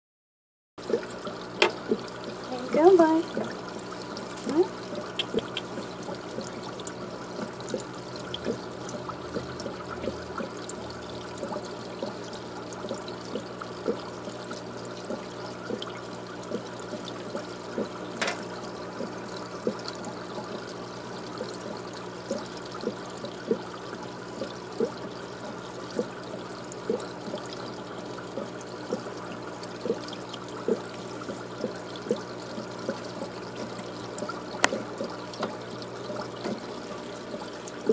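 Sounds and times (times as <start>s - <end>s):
small drips: 0.8s - 37.9s
water trickling: 0.8s - 37.9s.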